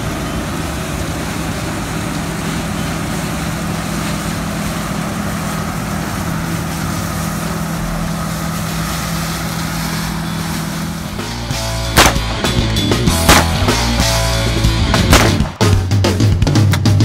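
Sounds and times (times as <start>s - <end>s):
combine harvester droning: 0.0s - 15.9s.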